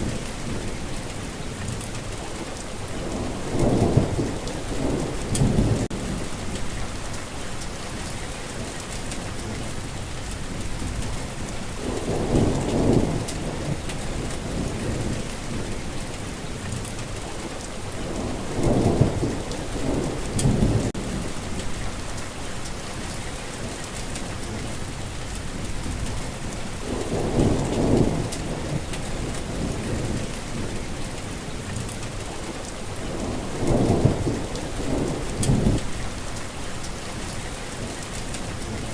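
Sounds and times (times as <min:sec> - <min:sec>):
heavy rain falling: 0:00.0 - 0:38.9
thunder rumbling: 0:00.0 - 0:38.9.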